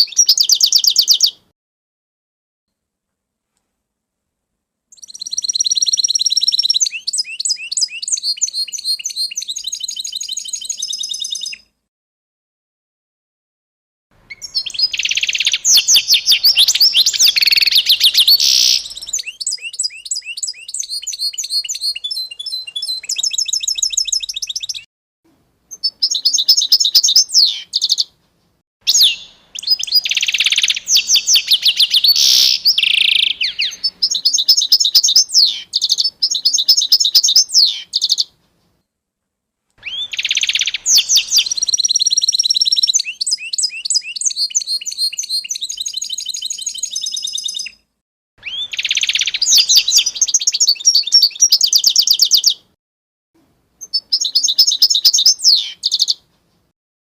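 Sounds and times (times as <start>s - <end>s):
songbird singing trills and whistles: 0.0s - 1.4s, 4.9s - 11.7s, 14.3s - 24.9s, 25.7s - 28.1s, 28.9s - 38.3s, 39.8s - 52.7s, 53.8s - 56.2s.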